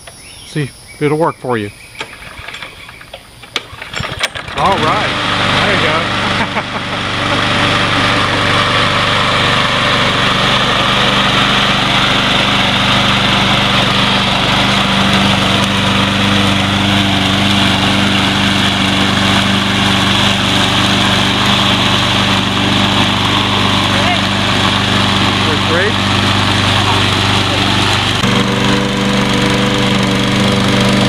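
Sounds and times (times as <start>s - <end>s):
lawn mower engine running: 1.9s - 31.0s.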